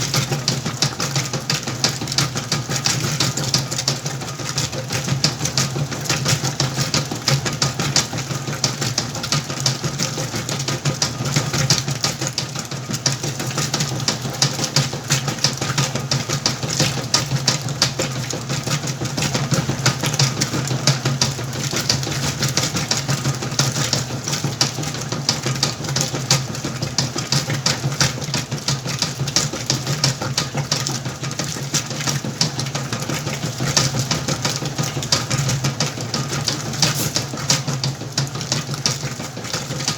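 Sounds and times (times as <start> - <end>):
fast irregular clicking rattle: 0.0 - 39.9
washing machine motor hum: 0.0 - 39.9.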